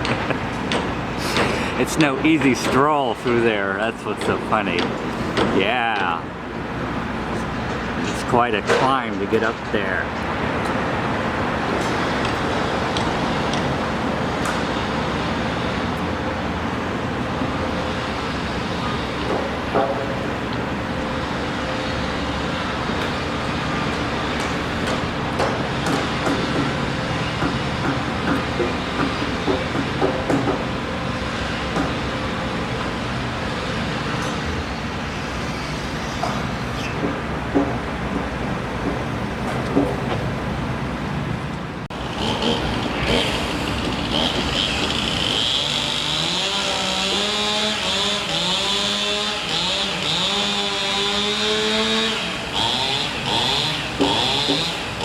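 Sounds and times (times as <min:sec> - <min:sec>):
road traffic rushing: 0:00.0 - 0:55.0.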